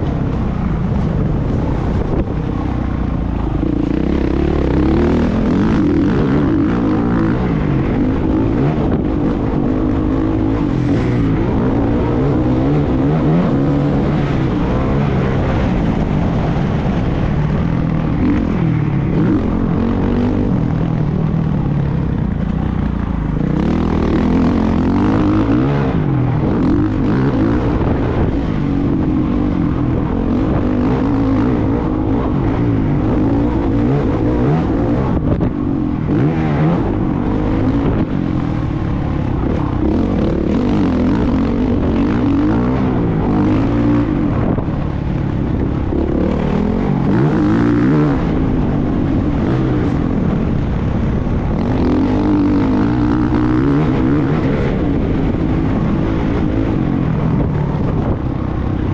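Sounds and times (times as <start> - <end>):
motocross bike engine revving: 1.4 - 21.7, 22.9 - 58.9.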